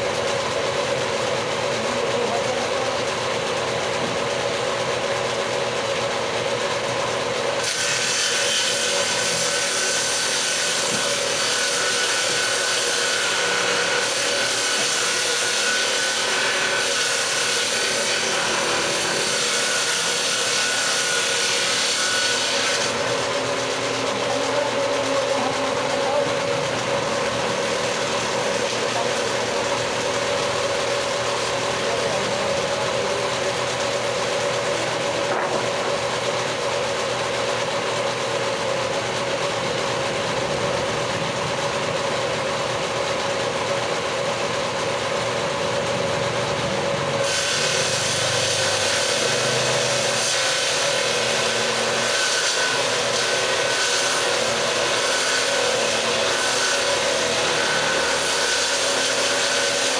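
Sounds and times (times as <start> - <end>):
power tool cutting wood: 0.0 - 59.9.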